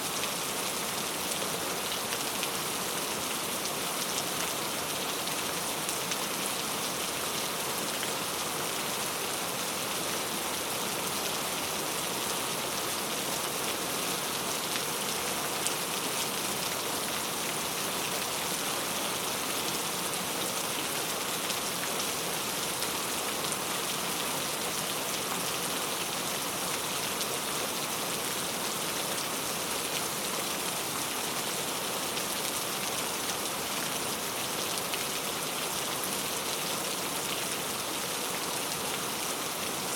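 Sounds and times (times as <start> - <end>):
steady rainfall pattering: 0.0 - 39.9.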